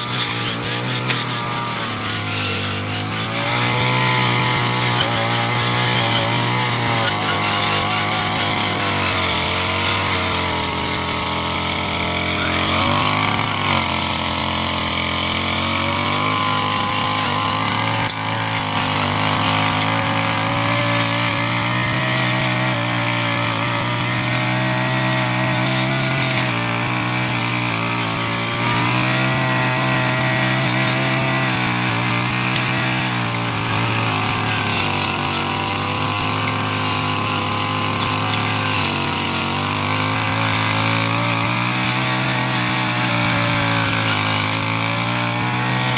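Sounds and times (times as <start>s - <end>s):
brush cutter engine cutting grass: 0.0s - 45.9s.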